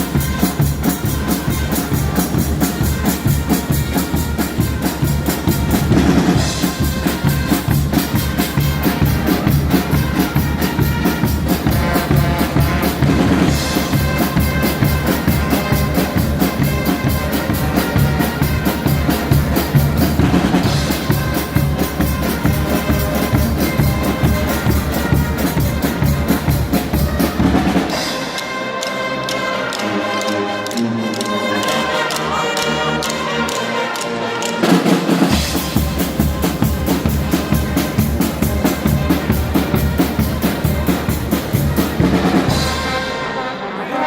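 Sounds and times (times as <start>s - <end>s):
driving drums: 0.0s - 28.5s, 34.6s - 43.4s
carnival brass band playing: 0.0s - 44.0s.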